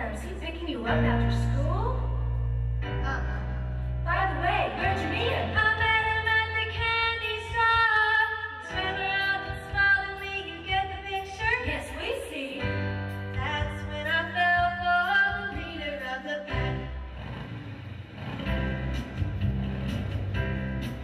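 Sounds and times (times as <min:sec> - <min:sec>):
musical accompaniment: 0:00.8 - 0:21.0.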